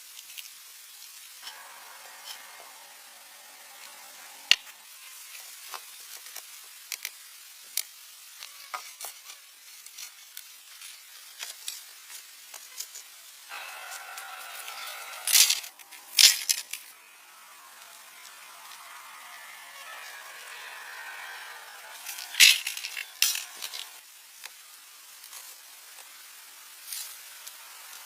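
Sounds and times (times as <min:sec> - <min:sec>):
campfire crackling and hissing: 0:00.0 - 0:28.0.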